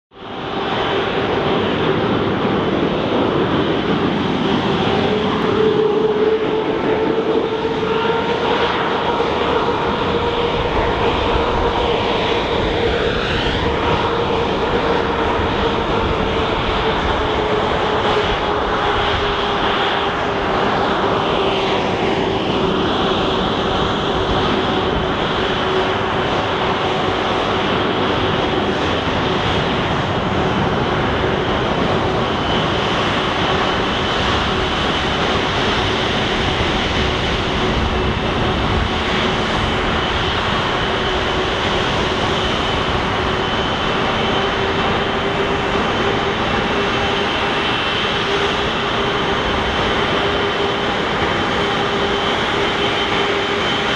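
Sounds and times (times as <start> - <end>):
jet airliner engine taxiing: 0.1 - 53.9.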